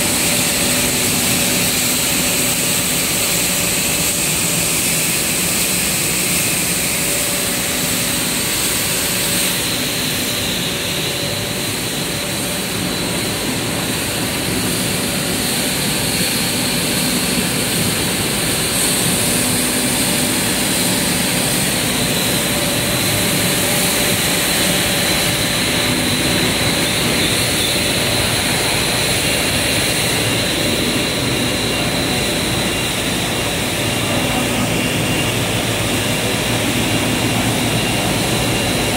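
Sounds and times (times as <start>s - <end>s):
coating machine running: 0.0s - 38.9s
high steady machine tones: 0.0s - 38.9s.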